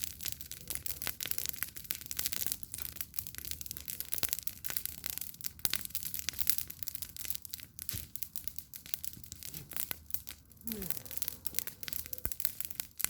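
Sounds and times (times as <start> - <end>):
burning wood popping: 0.0 - 13.0
campfire crackling: 0.0 - 13.0.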